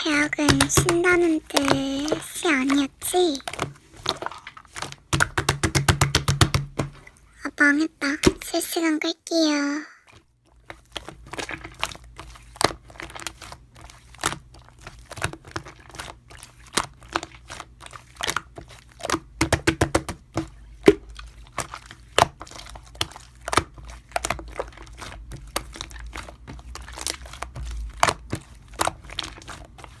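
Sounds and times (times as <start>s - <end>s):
slime squishing with pops: 0.0s - 8.7s, 10.1s - 30.0s.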